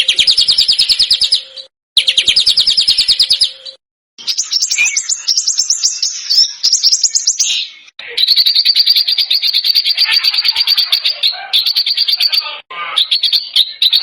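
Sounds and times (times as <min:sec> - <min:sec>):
small songbird singing: 0:00.0 - 0:14.0.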